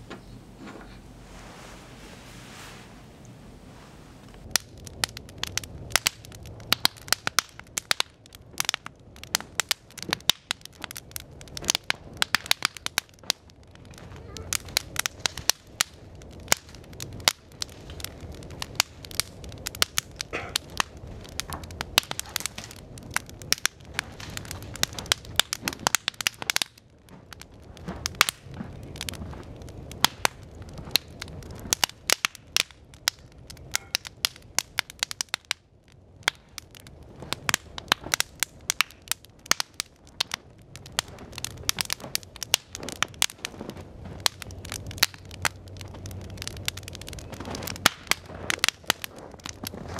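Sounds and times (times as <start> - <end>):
low steady rush of flames: 0.0 - 49.9
wood fire crackling and popping: 2.6 - 49.9.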